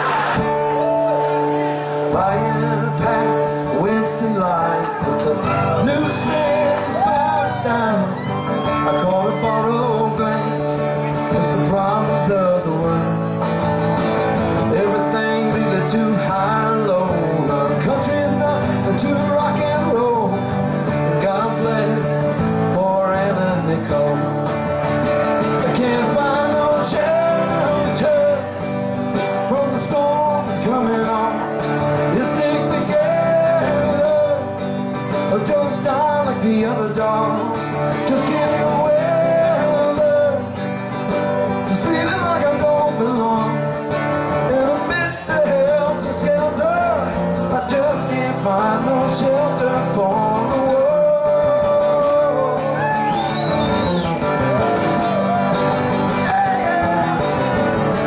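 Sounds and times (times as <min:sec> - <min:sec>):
acoustic guitar: 0:00.0 - 0:58.0
man singing: 0:00.0 - 0:58.0.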